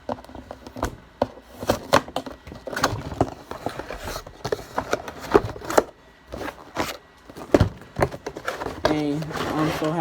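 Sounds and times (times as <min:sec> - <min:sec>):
plastic rustling: 0:01.4 - 0:10.0.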